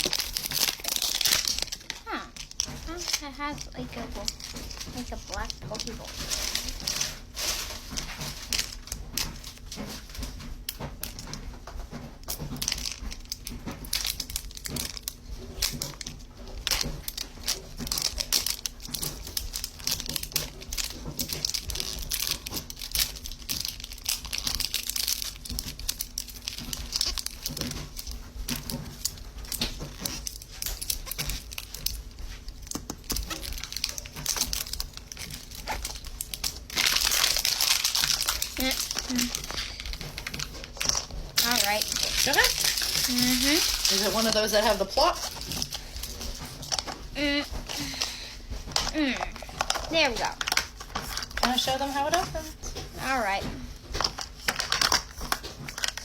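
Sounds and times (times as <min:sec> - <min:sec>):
plastic packaging crinkling: 0:00.0 - 0:56.0.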